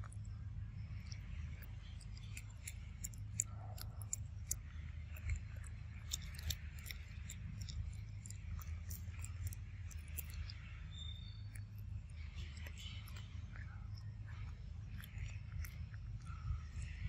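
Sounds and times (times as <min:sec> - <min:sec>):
monkey chewing food: 0:00.0 - 0:17.0.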